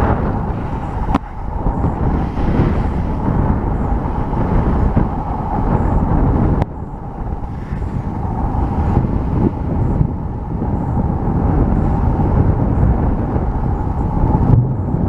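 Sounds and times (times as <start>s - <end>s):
waves rushing along hull: 0.0s - 15.0s
wind buffeting microphone: 0.0s - 15.0s.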